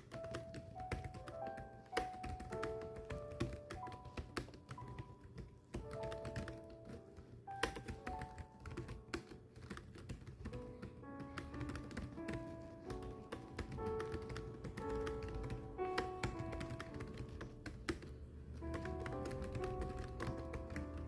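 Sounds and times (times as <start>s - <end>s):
keyboard keys clicking: 0.0s - 21.0s
slow background music: 0.0s - 21.0s.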